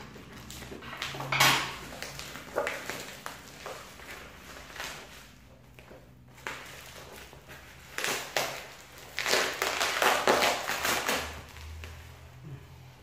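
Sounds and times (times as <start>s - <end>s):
plastic wrapping crinkling: 0.0s - 12.3s.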